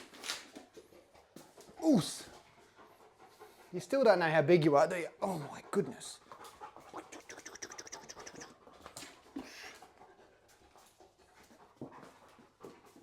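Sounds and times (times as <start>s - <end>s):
dog panting: 0.5s - 13.0s.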